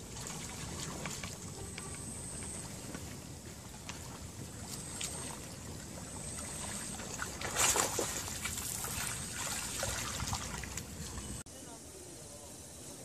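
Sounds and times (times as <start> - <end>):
fish splashing and thrashing: 0.0 - 11.4
steady outdoor hiss: 0.0 - 13.0.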